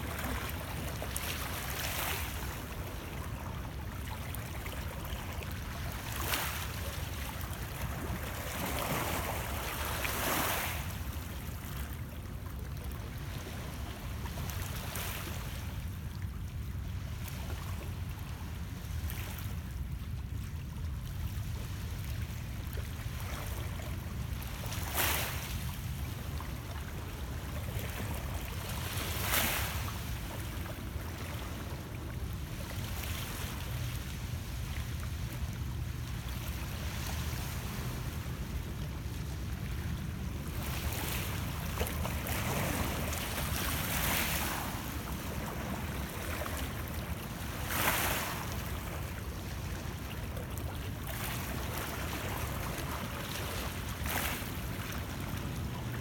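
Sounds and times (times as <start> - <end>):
waves lapping against rocks: 0.0 - 12.4, 21.2 - 56.0.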